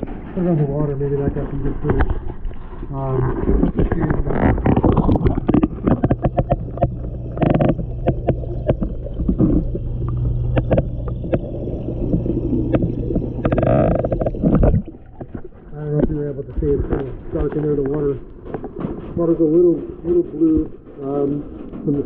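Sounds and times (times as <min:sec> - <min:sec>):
water pump humming underwater: 0:00.0 - 0:22.0
water sloshing: 0:00.0 - 0:22.0
sharp clicks and knocks: 0:03.4 - 0:22.0.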